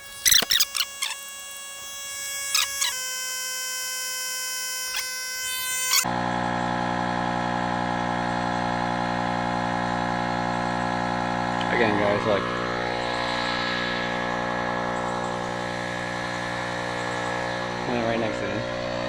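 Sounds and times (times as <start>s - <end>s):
electric inflation pump running: 0.0s - 19.0s.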